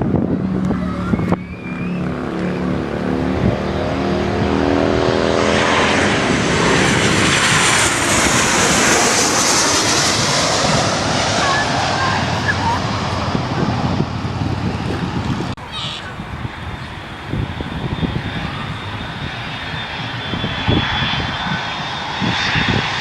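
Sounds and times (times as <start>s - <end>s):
jet airliner flying overhead: 0.0s - 23.0s.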